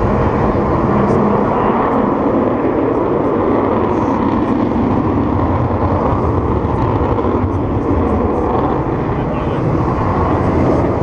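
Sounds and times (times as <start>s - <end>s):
loud jet engine noise: 0.0s - 11.0s.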